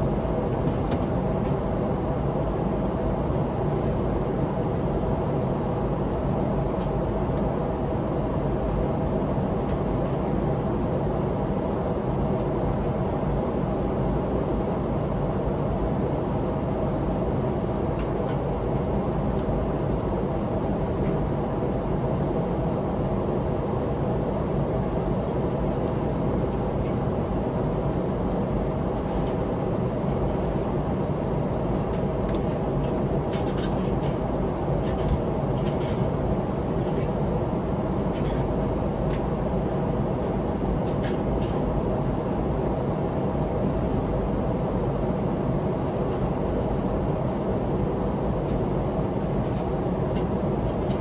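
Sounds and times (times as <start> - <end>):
airliner cabin engine rumble: 0.0 - 51.0.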